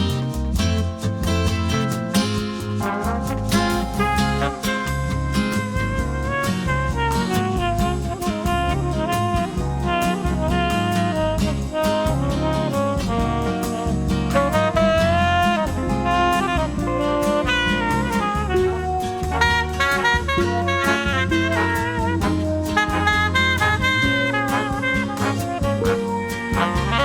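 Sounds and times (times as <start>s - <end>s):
mellow instrumental background music: 0.0s - 27.0s.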